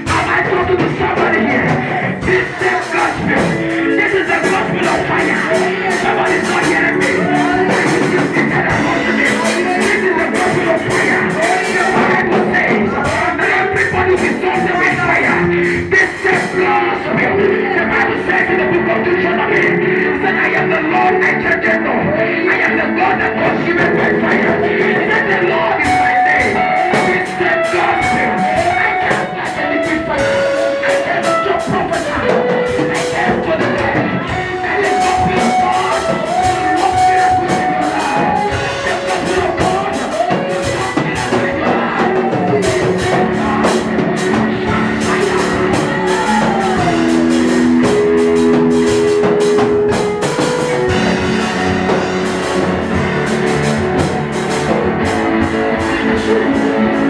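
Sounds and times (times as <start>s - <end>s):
band music with drums and guitar: 0.0s - 21.6s, 22.8s - 57.0s.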